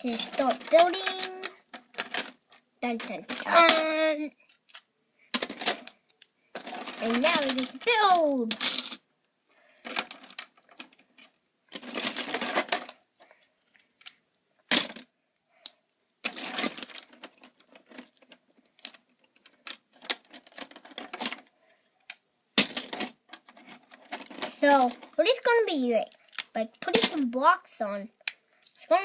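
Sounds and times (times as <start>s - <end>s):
plastic bricks clattering: 0.0s - 9.0s, 9.8s - 13.0s, 14.0s - 15.1s, 16.2s - 21.5s, 22.6s - 27.3s.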